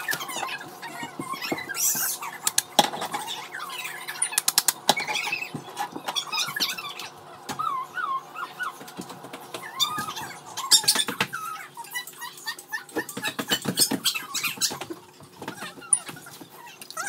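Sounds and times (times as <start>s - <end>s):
pet whining: 0.0s - 17.0s.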